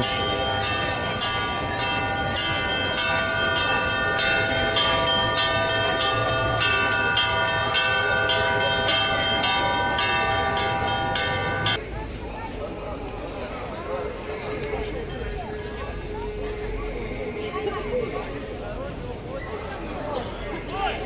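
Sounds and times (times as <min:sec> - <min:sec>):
church bells pealing: 0:00.0 - 0:12.0, 0:13.8 - 0:19.4.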